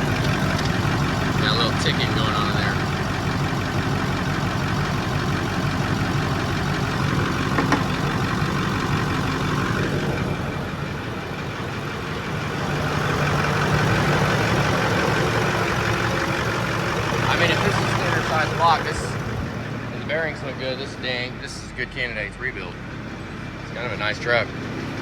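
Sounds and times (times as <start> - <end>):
diesel engine idling: 0.0 - 25.0
ticking inside engine: 0.0 - 25.0.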